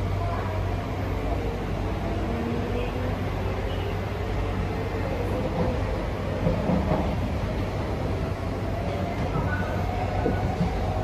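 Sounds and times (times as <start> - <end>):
metro train rumble: 0.0 - 11.0.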